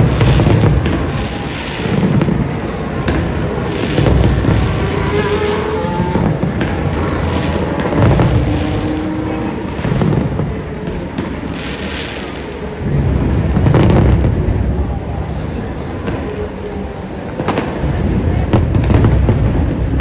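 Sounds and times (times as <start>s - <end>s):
fireworks booming: 0.0s - 20.0s
fireworks crackling and popping: 0.0s - 20.0s.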